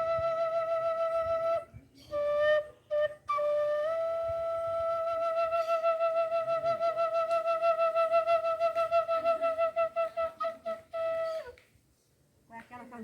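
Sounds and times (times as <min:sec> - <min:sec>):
flute long note with vibrato: 0:00.0 - 0:11.5.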